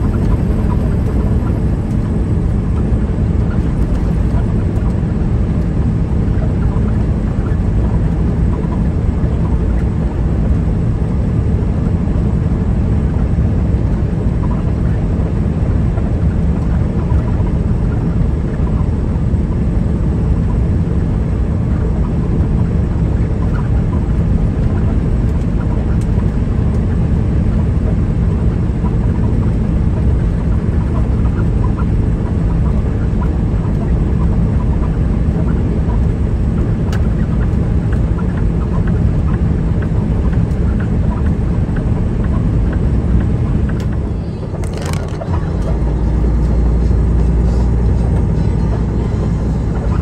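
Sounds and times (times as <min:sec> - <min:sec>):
diesel truck engine running: 0:00.0 - 0:50.0
road noise: 0:00.0 - 0:50.0.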